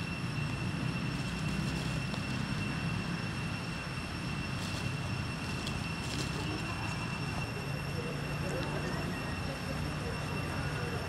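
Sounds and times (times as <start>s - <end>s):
high-pitched whine: 0.0s - 11.0s
low outdoor rumble: 0.0s - 11.0s.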